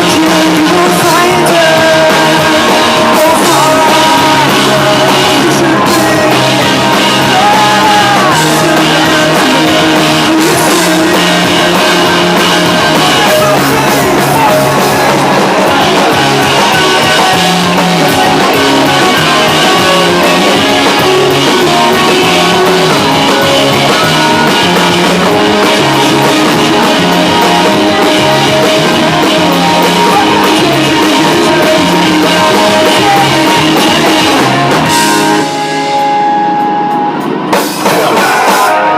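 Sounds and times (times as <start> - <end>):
person singing: 0.0 - 37.0, 37.6 - 38.9
drum kit: 0.0 - 38.9
electric guitar: 0.0 - 38.9.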